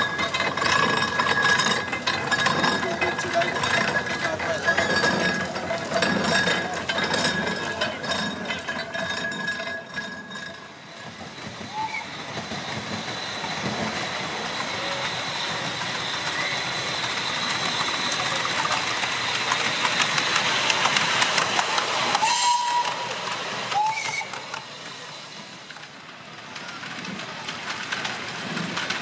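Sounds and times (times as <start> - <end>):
wheels clicking over track joints: 0.0 - 25.0, 25.6 - 29.0
miniature train passing: 0.0 - 29.0.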